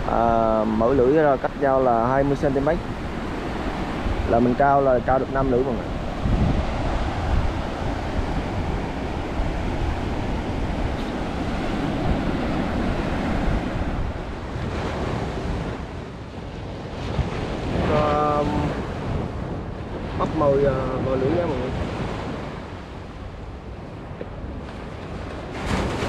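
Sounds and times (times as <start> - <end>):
surf breaking on a beach: 0.0 - 26.0
wind buffeting microphone: 0.0 - 26.0.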